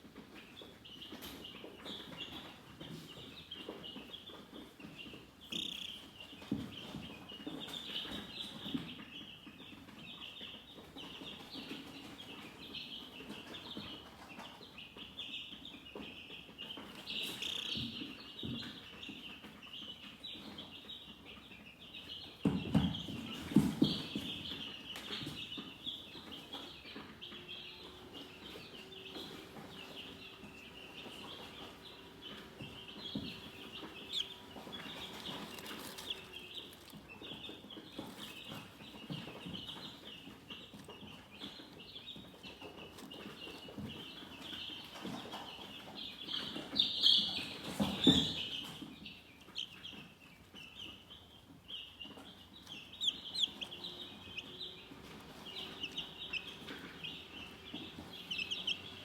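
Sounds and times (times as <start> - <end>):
chickens chirping: 0.0 - 59.0.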